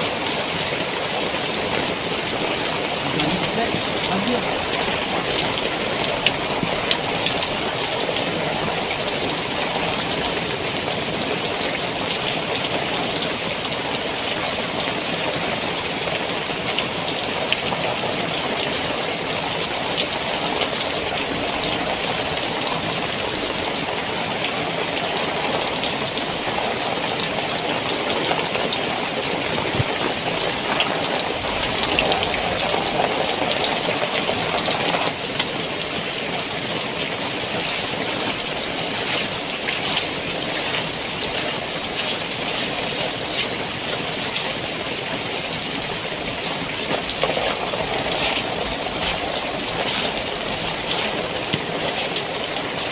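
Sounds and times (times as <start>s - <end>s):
heavy rain on tent: 0.0s - 52.9s.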